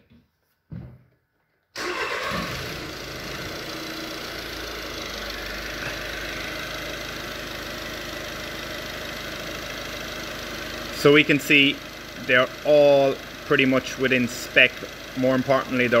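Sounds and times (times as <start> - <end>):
diesel engine starting and idling: 1.8 - 16.0.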